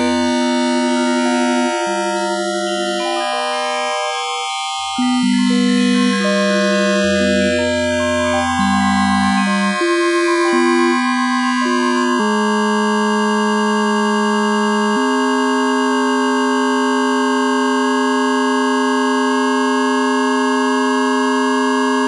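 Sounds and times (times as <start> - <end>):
held sine-like electronic tones: 0.0 - 17.9.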